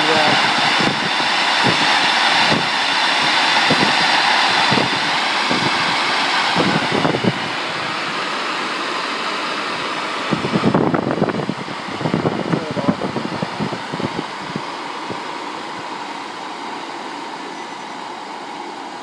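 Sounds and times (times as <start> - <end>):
treadmill motor whirring: 0.0 - 19.0.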